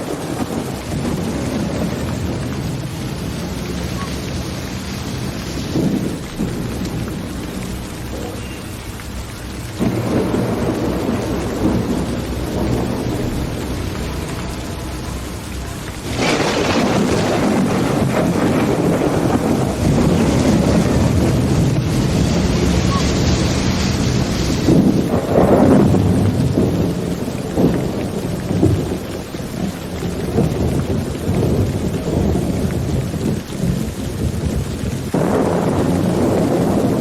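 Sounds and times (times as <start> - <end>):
rain falling: 0.0 - 37.0
thunder rumbling: 0.0 - 37.0.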